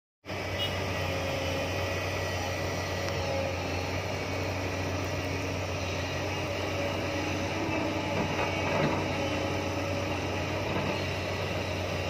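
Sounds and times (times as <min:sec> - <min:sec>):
excavator diesel engine running: 0:00.3 - 0:12.0.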